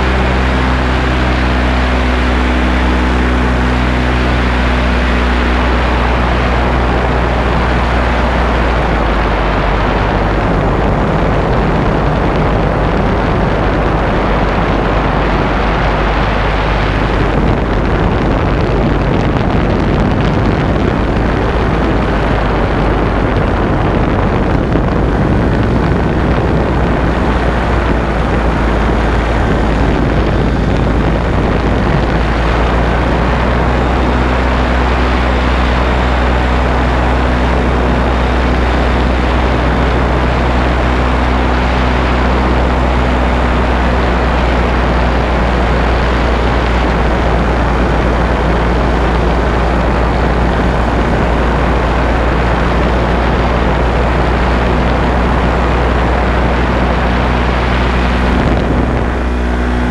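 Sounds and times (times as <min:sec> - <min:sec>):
paramotor engine drone: 0:00.0 - 0:59.9.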